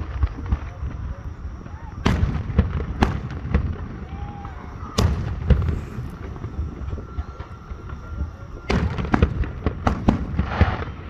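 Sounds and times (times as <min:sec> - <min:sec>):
sharp cracks and bangs: 0:00.0 - 0:08.0, 0:08.7 - 0:11.0
aerial fireworks bangs: 0:00.0 - 0:08.1, 0:08.7 - 0:11.0.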